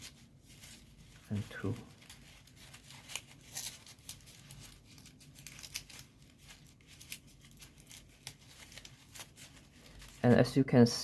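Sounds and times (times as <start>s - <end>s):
folded paper rustling and crinkling: 0.0s - 10.9s.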